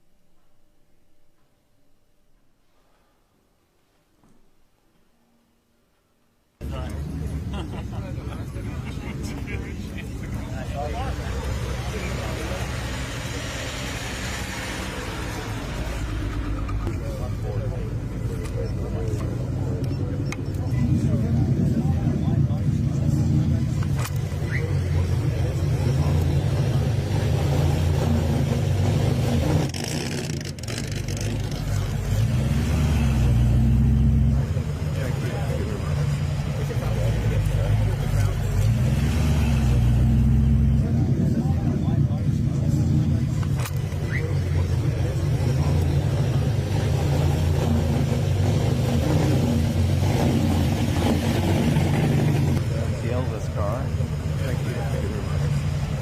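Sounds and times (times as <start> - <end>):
car engine running: 6.6 - 56.0.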